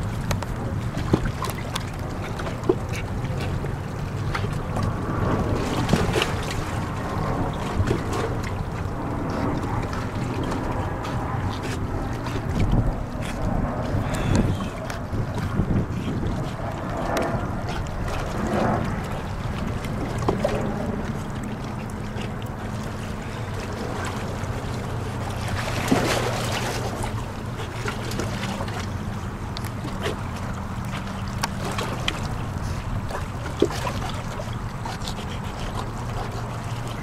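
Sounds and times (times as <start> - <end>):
low engine drone: 0.0 - 37.0
small waves lapping: 0.0 - 37.0
wind on microphone: 0.0 - 37.0.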